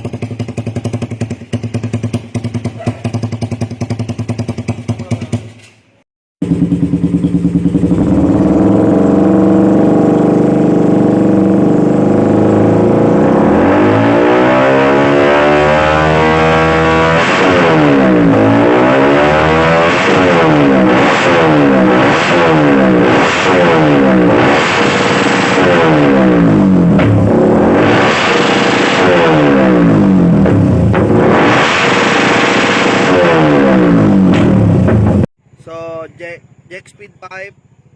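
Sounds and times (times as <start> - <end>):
motorcycle engine revving: 0.0 - 5.8, 6.4 - 37.9.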